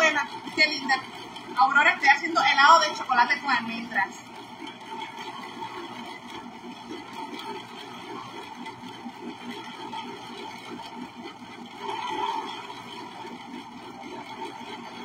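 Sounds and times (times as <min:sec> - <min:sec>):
ice cream maker motor running: 0:00.0 - 0:15.0.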